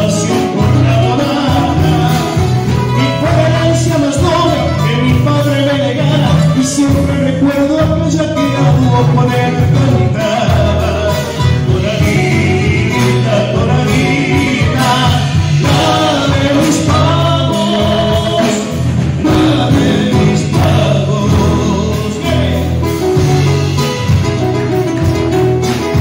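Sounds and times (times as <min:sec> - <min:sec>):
men singing: 0:00.0 - 0:24.5
drums: 0:00.0 - 0:26.0
electric bass: 0:00.0 - 0:26.0
strummed acoustic guitars: 0:00.0 - 0:26.0.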